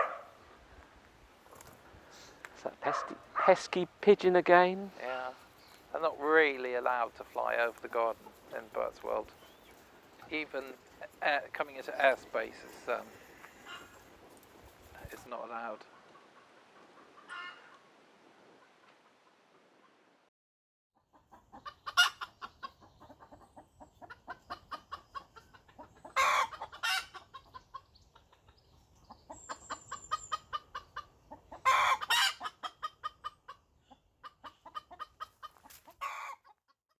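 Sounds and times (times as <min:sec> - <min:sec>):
hens clucking: 0:01.5 - 0:17.9, 0:21.0 - 0:36.7.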